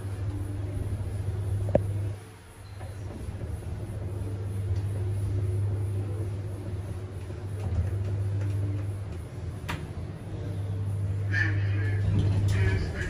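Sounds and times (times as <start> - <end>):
lift humming in motion: 0.0 - 13.0.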